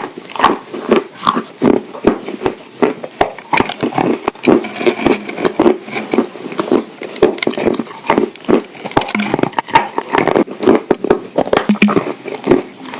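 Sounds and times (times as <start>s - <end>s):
crunchy chewing: 0.0s - 12.9s
wet mouth sounds: 0.0s - 12.9s.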